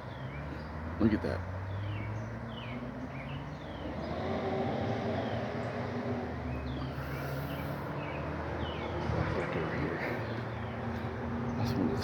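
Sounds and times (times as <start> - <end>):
birds chirping: 0.0 - 12.0
vehicle engine hum: 0.0 - 12.0.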